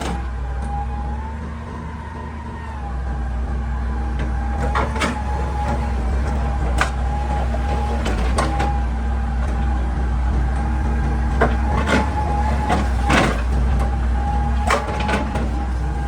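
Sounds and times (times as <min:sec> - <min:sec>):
excavator diesel engine droning: 0:00.0 - 0:16.0
hydraulic whine: 0:00.0 - 0:16.0.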